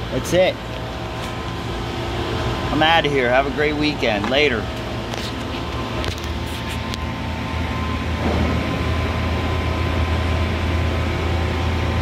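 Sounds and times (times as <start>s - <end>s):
welding machine humming: 0.0s - 12.0s.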